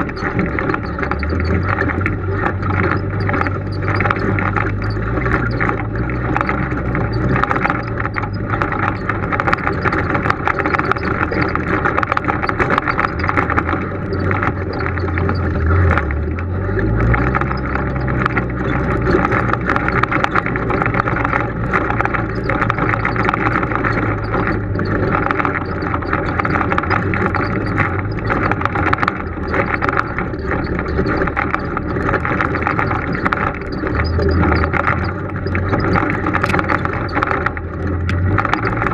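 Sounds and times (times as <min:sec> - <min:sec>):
off-road vehicle engine running: 0:00.0 - 0:38.9
vehicle rattling over rocks: 0:00.0 - 0:38.9.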